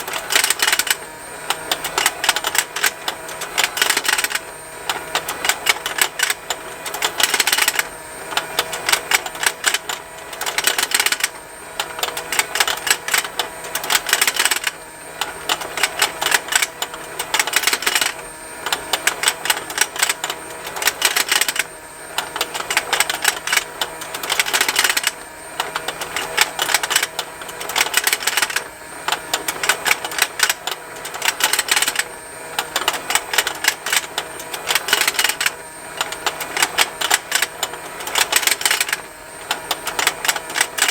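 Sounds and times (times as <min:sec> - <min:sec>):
faint motor hum: 0:00.0 - 0:40.9
toy motor ticking: 0:00.0 - 0:40.9.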